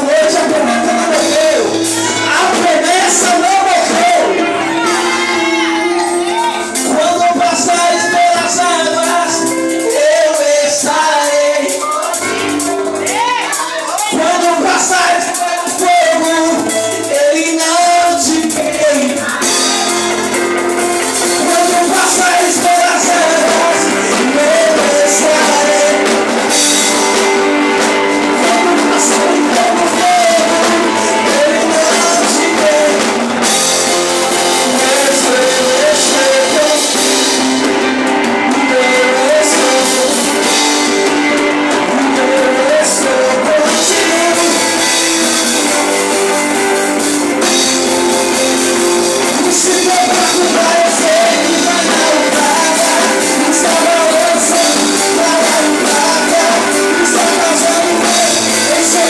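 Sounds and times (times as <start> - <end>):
person singing: 0.0 - 59.0
worship band music: 0.0 - 59.0.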